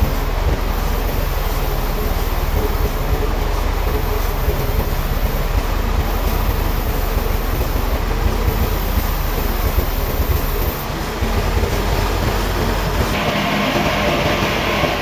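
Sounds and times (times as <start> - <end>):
faint steady hum: 0.0 - 15.0
sawmill machinery running: 0.0 - 15.0.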